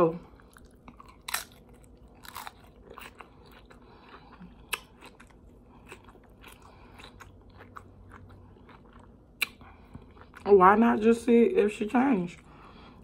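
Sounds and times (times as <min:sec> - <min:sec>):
person chewing food: 0:00.1 - 0:10.6.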